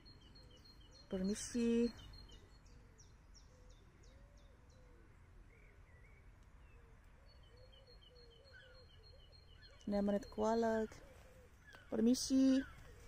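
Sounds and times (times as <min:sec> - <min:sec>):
low outdoor background hum: 0:00.0 - 0:13.0.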